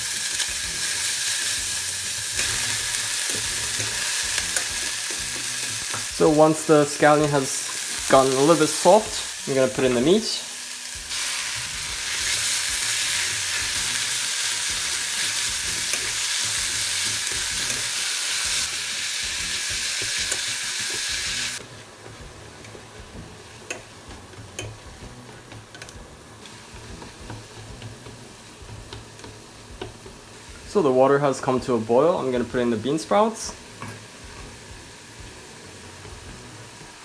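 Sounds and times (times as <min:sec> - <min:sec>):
meat sizzling in a pot: 0:00.0 - 0:37.0.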